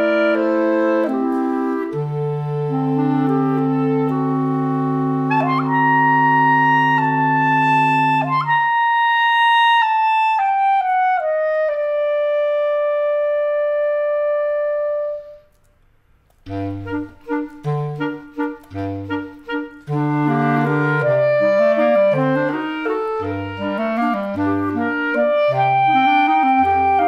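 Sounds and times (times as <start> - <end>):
clarinet quartet playing chord: 0.0 - 15.4, 16.5 - 27.0.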